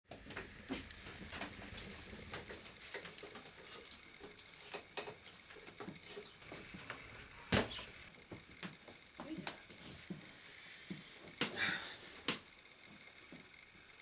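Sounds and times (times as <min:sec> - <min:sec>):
soft hiss: 0:00.1 - 0:14.0
wood fire crackling: 0:00.1 - 0:14.0.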